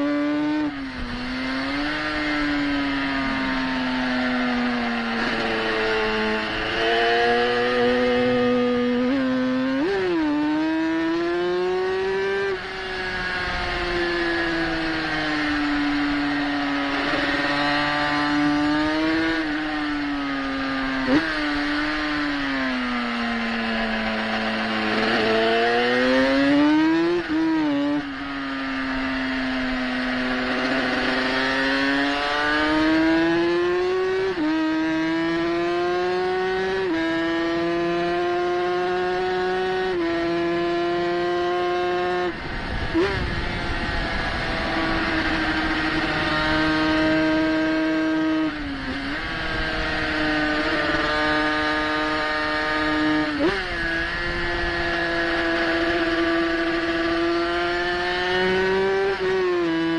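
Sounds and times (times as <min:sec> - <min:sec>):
motorcycle engine revving: 0:00.0 - 0:59.9
wind noise: 0:00.0 - 0:59.9.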